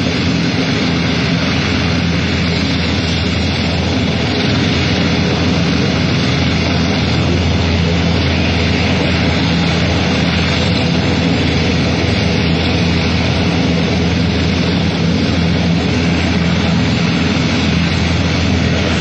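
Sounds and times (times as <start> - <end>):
helicopter engine and rotor: 0.0 - 19.0.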